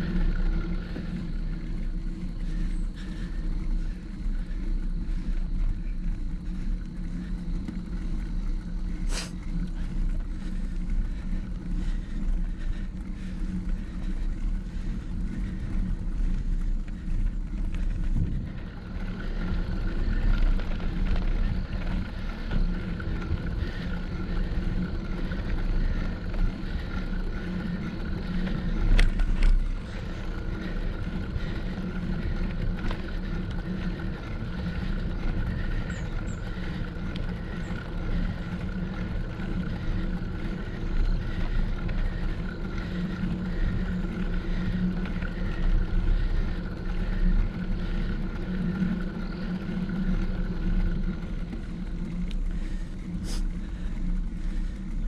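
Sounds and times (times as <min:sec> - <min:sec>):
bicycle tyre noise on road: 0:00.0 - 0:55.0
wind rumbling on microphone: 0:00.0 - 0:55.0.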